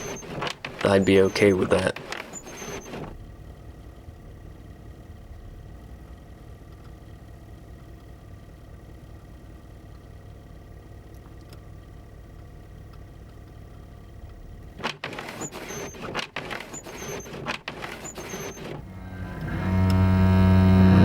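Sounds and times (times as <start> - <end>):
car idling rumble: 0.0 - 21.0.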